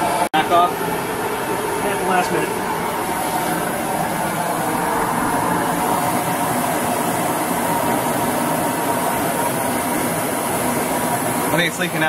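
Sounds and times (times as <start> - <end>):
furnace burner roaring: 0.0 - 12.0
heat gun blower rushing: 0.0 - 12.0.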